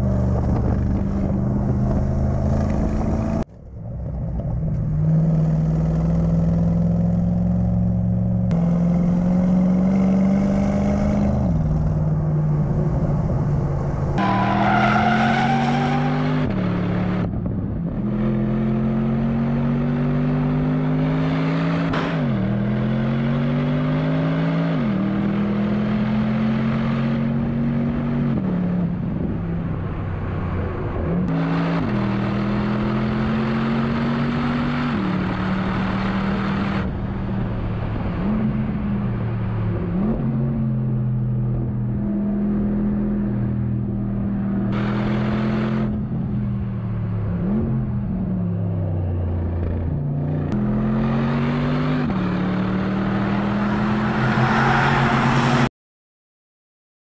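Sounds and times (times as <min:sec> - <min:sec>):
car engine accelerating through gears: 0:00.0 - 0:29.3, 0:30.7 - 0:55.7.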